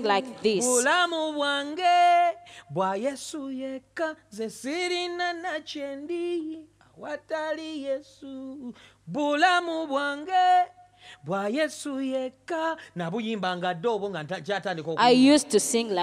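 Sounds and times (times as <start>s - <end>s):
man singing unaccompanied: 0.0s - 14.5s.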